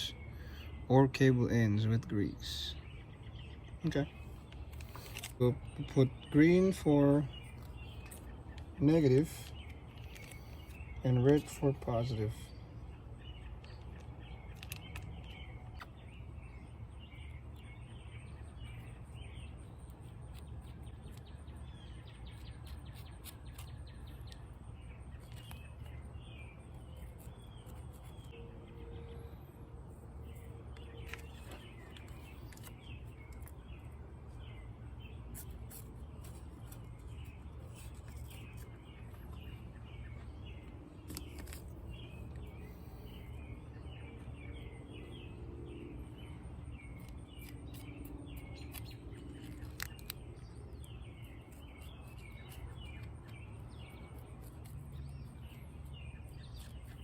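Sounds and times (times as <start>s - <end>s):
low outdoor hum: 0.0s - 57.0s
small birds chirping: 0.0s - 57.0s.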